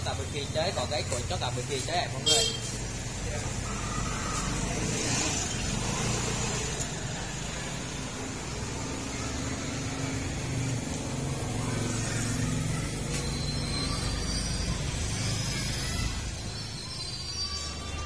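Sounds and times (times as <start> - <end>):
traffic engines humming: 0.0 - 18.0.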